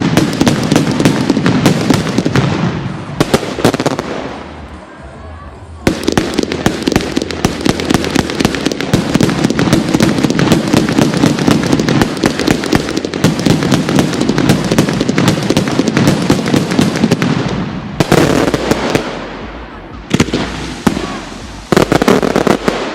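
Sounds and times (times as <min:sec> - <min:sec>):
fireworks crackling: 0:00.0 - 0:22.9.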